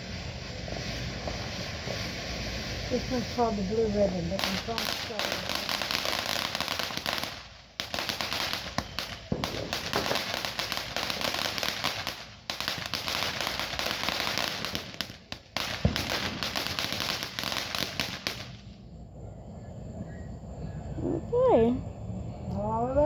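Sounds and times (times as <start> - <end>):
firework crackling: 0.0 - 19.0.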